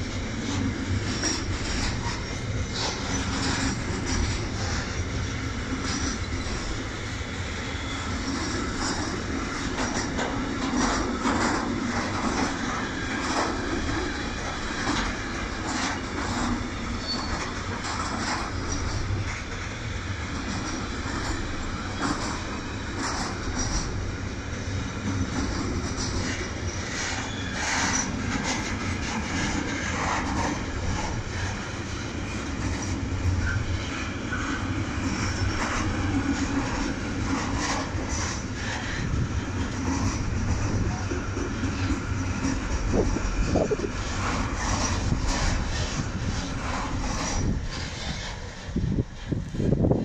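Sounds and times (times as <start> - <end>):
steel wheels rumbling on rails: 0.0 - 50.0.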